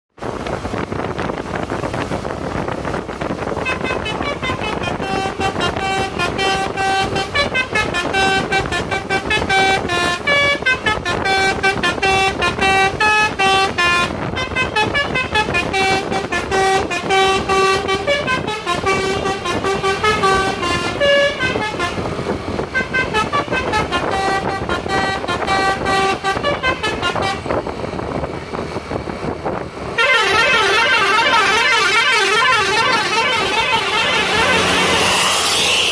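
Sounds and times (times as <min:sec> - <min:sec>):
bus air horn playing a melody: 0:03.4 - 0:27.7, 0:29.9 - 0:35.9.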